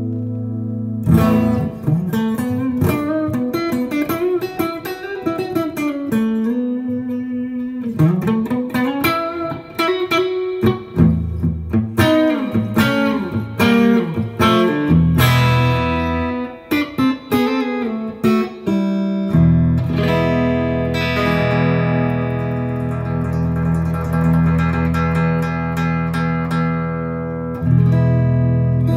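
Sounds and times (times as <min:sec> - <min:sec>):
electric guitar through amp: 0:00.0 - 0:28.9.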